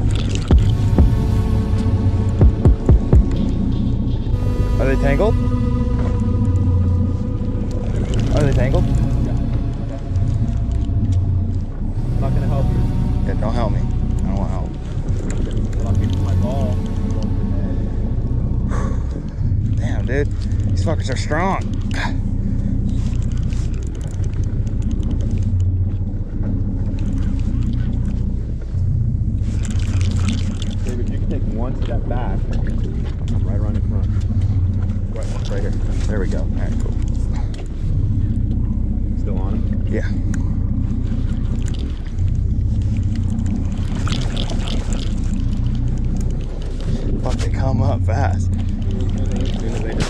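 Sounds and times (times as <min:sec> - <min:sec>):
boat engine idling: 0:00.0 - 0:50.0.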